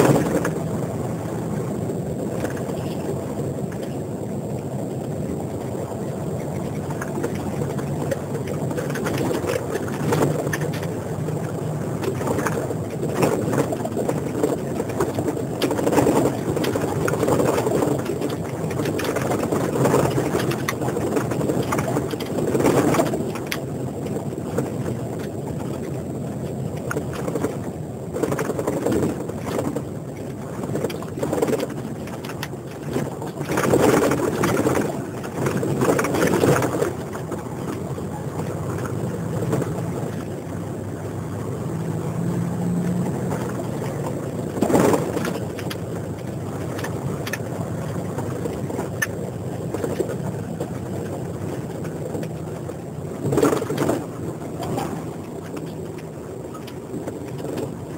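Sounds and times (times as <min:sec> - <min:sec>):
vehicle engine and road noise: 0:00.0 - 0:57.9.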